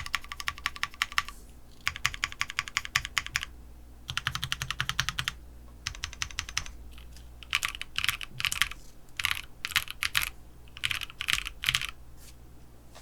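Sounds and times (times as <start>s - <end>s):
mechanical keyboard typing: 0.0s - 3.5s, 4.1s - 12.0s.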